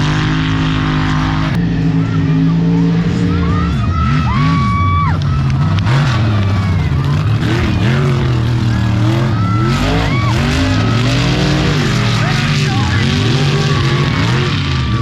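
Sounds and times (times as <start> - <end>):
low engine drone: 0.0 - 15.0
truck engines revving: 0.0 - 15.0.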